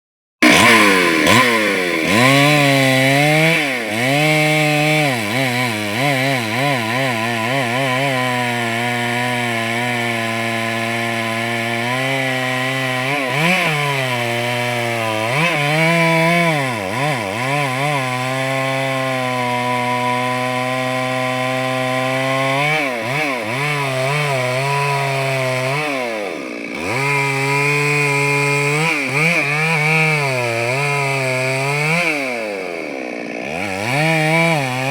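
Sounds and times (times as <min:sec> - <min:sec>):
chainsaw cutting through tree: 0:00.4 - 0:34.9.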